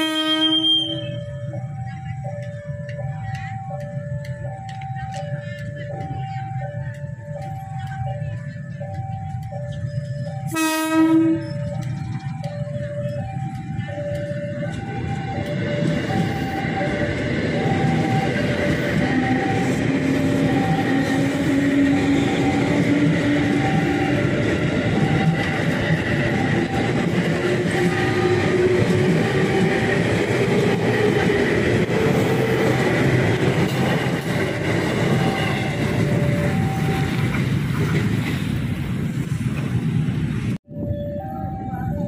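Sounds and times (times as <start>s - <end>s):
level crossing alarm: 0.0s - 38.0s, 40.6s - 42.0s
train wheels rumbling on rails: 0.0s - 42.0s.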